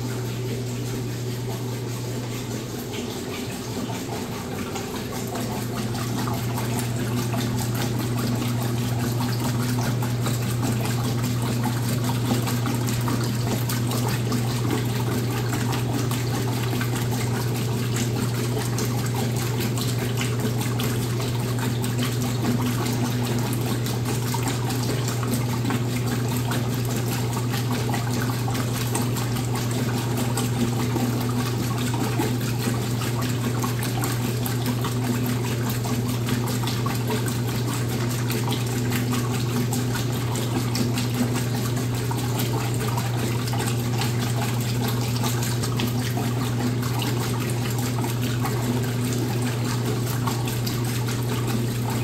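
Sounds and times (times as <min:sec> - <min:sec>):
low electrical hum: 0:00.0 - 0:52.0
washing machine water rushing: 0:00.0 - 0:52.0.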